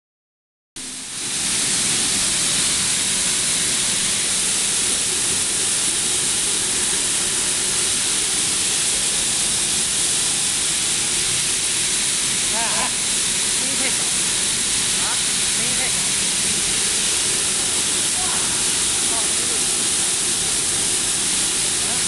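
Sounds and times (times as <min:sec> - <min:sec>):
machinery humming: 0:00.8 - 0:22.0.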